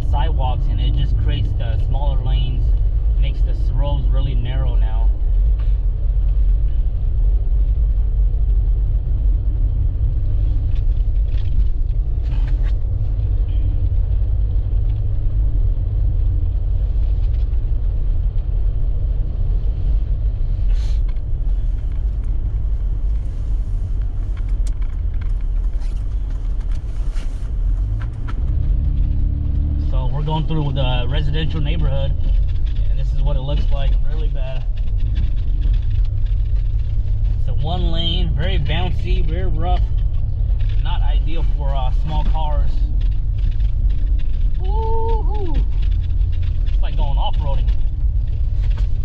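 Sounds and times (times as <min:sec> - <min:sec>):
road and engine rumble: 0:00.0 - 0:49.0
faint crackles: 0:00.2 - 0:49.0.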